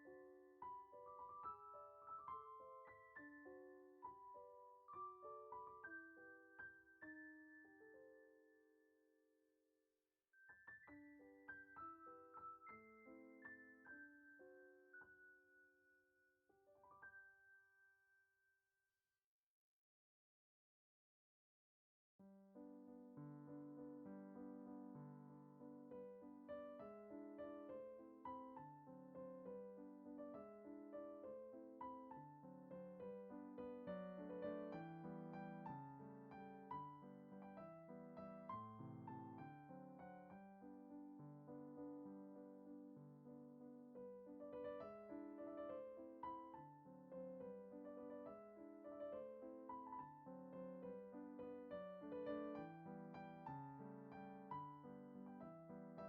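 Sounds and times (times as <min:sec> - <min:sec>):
gentle piano music: 0:00.0 - 0:09.1, 0:10.4 - 0:17.9, 0:22.2 - 0:56.0.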